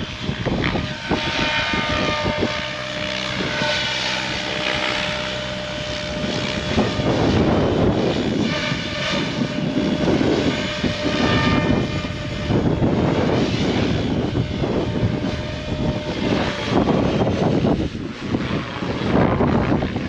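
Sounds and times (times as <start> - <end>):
rc helicopter rotors whirring: 0.0 - 20.0.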